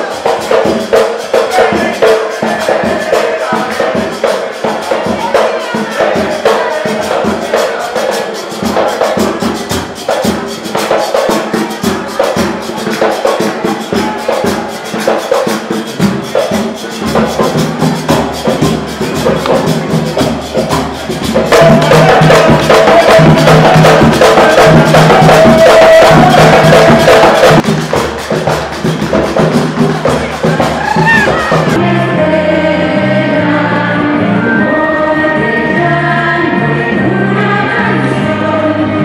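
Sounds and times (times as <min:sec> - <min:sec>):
drum struck with sticks: 0:00.0 - 0:31.8
hand drums fast rhythm: 0:00.0 - 0:31.8.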